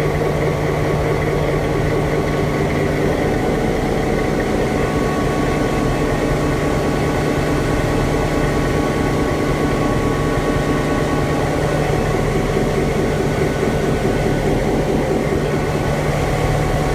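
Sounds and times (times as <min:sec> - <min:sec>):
diesel locomotive engine running: 0:00.0 - 0:16.9.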